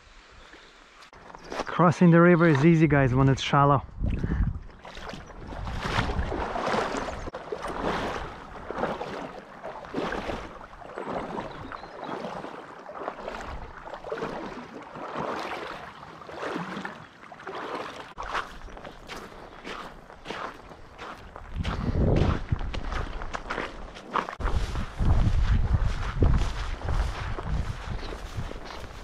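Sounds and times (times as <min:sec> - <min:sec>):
wading through shallow river: 0:00.1 - 0:29.0.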